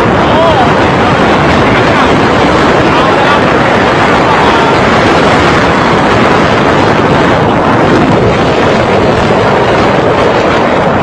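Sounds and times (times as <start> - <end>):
road and engine noise: 0.0 - 11.0
wind on microphone: 0.0 - 11.0.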